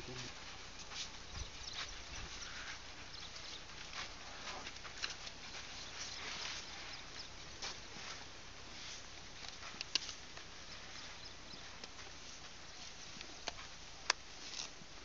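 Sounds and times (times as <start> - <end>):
elephants shuffling rustle: 0.0 - 15.0.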